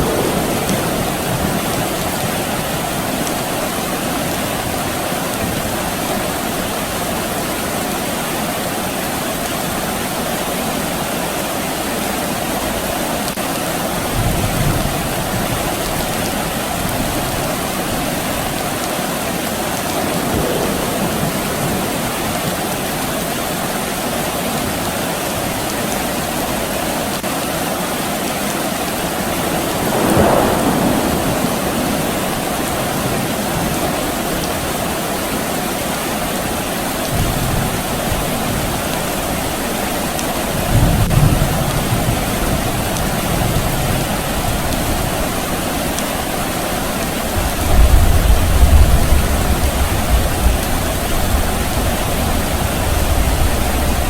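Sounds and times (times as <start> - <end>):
distant thunder rumbles: 0.0 - 8.0, 13.9 - 24.4, 28.9 - 54.0
steady rain falling: 0.0 - 54.0.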